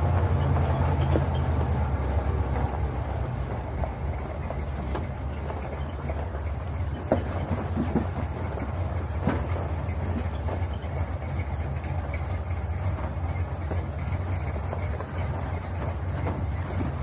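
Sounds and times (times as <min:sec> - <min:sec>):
light knocks and rattles: 0:00.0 - 0:17.0
pickup engine and road noise: 0:00.0 - 0:17.0.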